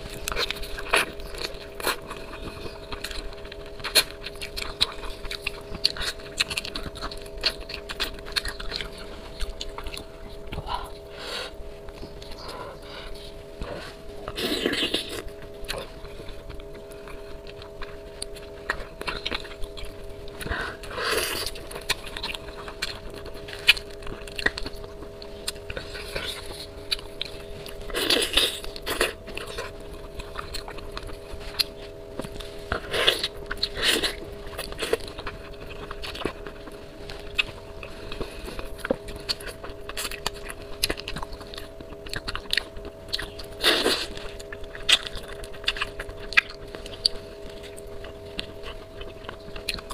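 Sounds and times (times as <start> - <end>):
faint steady hum: 0.0 - 49.9
wet chewing and slurping: 0.0 - 49.9.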